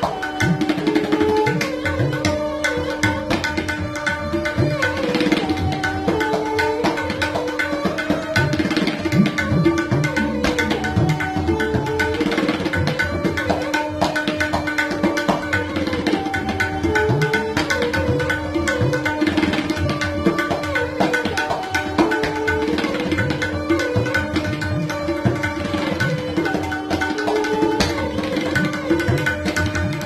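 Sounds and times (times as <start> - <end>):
bowed sarangi melody: 0.0 - 30.0
tabla drumming: 0.0 - 30.0.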